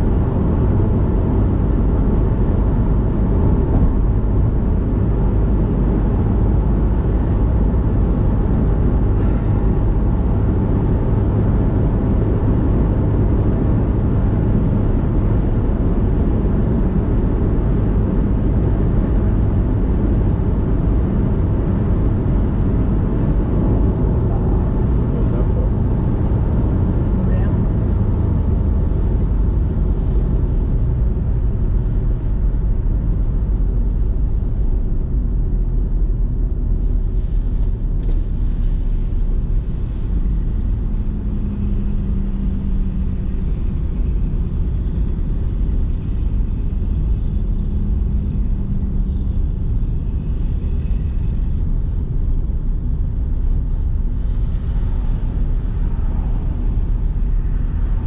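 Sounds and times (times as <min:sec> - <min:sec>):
car cabin road rumble: 0:00.0 - 0:58.0.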